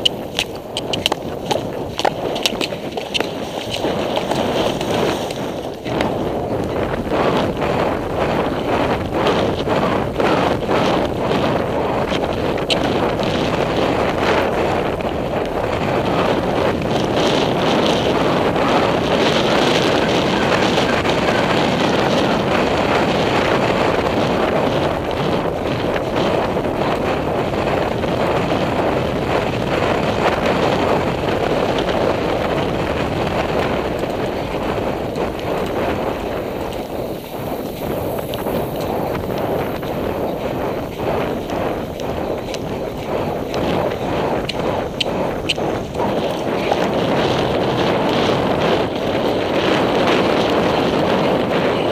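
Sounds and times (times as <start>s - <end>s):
horse hoofbeats thudding: 0.0s - 51.9s
wind buffeting microphone: 0.0s - 51.9s.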